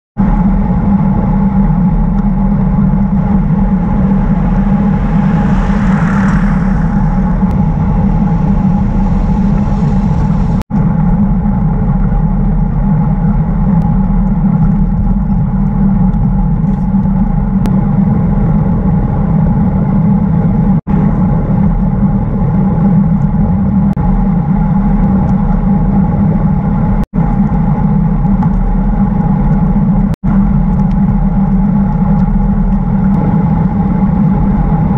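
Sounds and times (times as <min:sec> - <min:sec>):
bicycle tyres humming on road: 0:00.2 - 0:34.9
wind rushing on microphone: 0:00.2 - 0:34.9.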